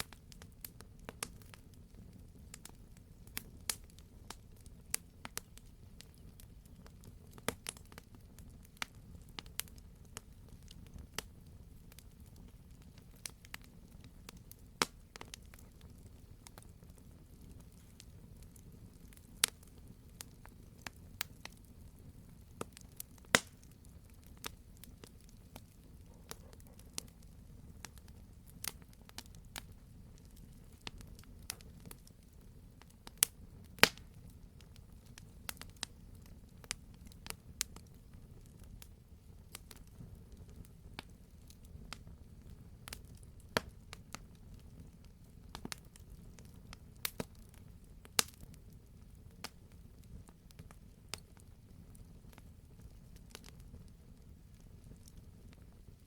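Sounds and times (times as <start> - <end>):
burning wood popping and snapping: 0.0 - 55.8
low rumble of flames: 0.0 - 56.0.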